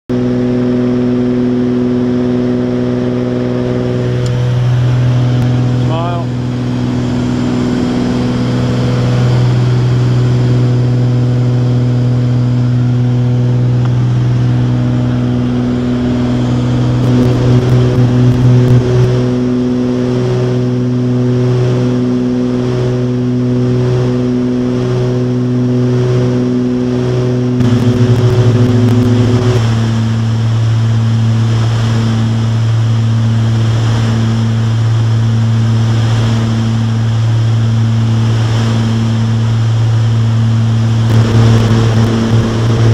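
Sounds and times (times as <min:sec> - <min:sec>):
propeller aircraft engines droning: 0:00.0 - 0:42.9.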